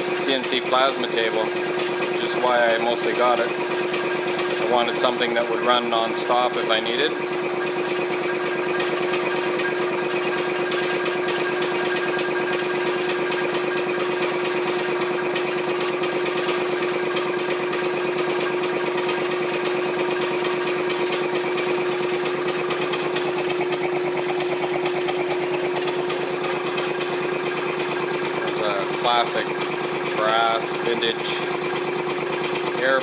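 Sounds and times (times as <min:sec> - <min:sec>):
air compressor running: 0:00.0 - 0:33.0.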